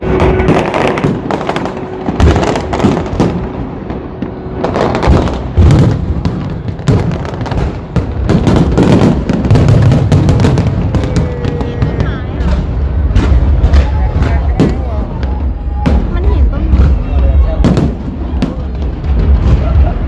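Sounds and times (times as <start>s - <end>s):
fireworks bangs and crackles: 0.0s - 20.0s
heavy firework booms: 0.0s - 20.0s.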